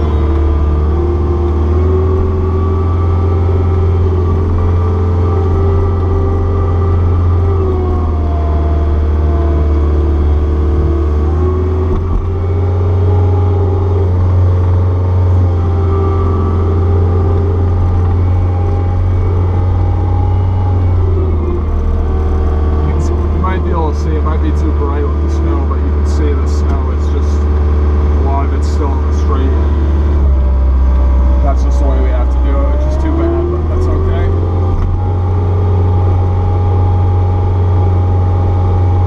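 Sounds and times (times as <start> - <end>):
diesel engine under load: 0.0 - 39.0.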